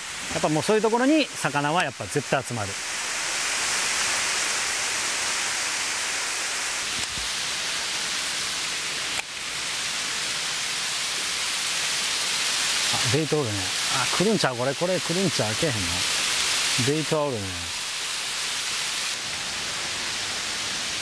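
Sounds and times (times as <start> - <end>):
water pouring from waterfall: 0.0 - 21.0.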